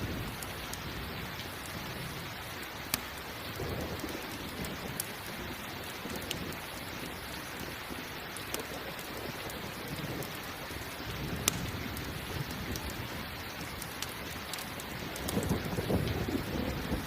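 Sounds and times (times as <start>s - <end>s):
low rumble of thunder: 0.0s - 2.4s, 3.4s - 7.2s, 8.7s - 17.0s
campfire crackling: 0.0s - 17.0s
steady rain: 0.0s - 17.0s.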